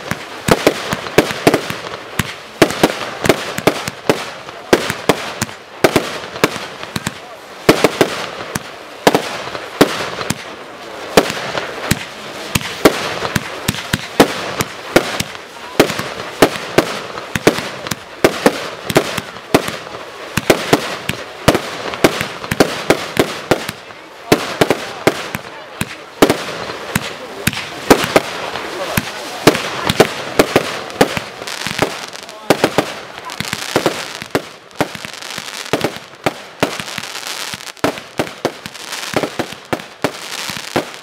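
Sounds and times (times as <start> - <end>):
fireworks bangs: 0.0 - 41.0
fireworks crackling: 0.0 - 41.0.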